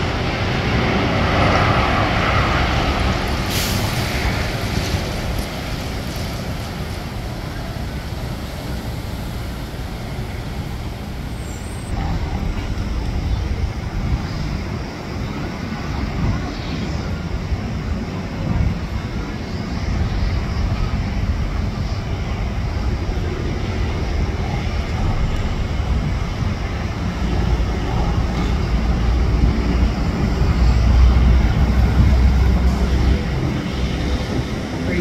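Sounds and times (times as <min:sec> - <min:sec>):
jet engines rumbling: 0:00.0 - 0:35.0.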